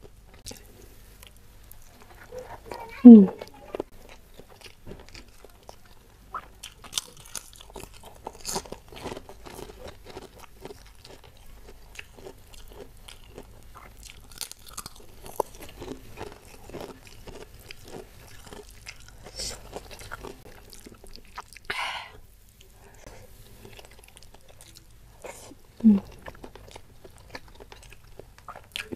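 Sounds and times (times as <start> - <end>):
crackers crunching: 0.0 - 21.7, 22.5 - 28.9
soft chewing: 0.0 - 28.9.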